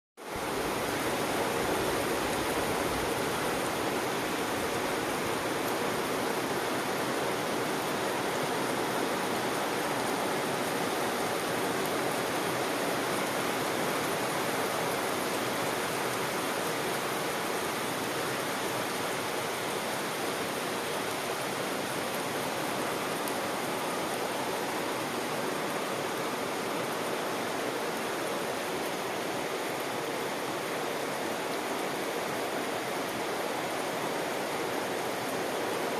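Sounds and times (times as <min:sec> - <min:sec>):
heavy rain: 0:00.2 - 0:35.9.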